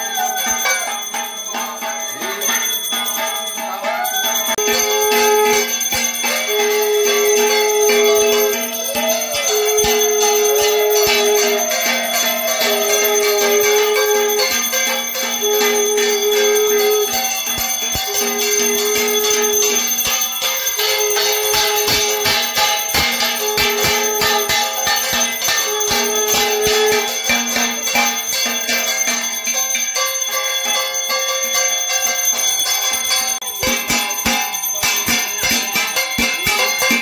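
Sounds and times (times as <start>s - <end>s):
hand bell rung rapidly: 0.0s - 37.0s.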